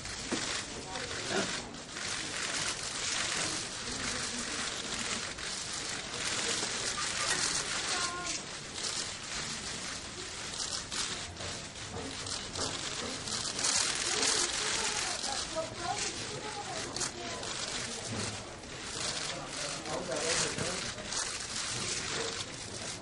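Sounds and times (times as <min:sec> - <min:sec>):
camera shutters clicking rapidly: 0:00.0 - 0:23.0.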